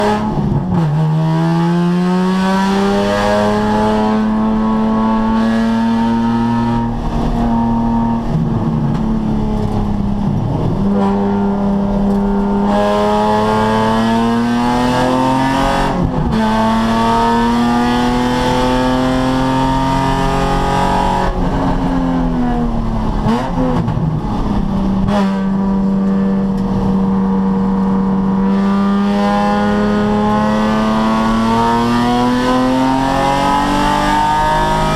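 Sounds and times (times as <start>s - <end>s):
race car engine revving hard: 0.0s - 34.9s.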